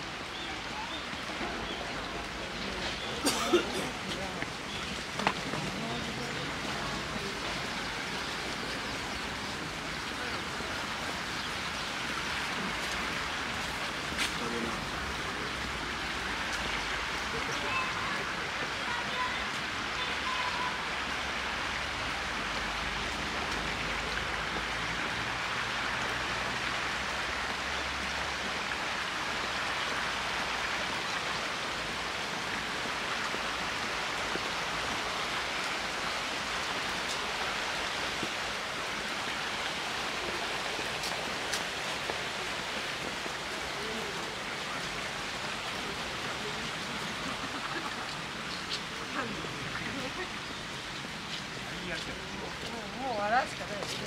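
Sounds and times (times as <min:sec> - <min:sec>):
river running over rocks: 0:00.0 - 0:54.0.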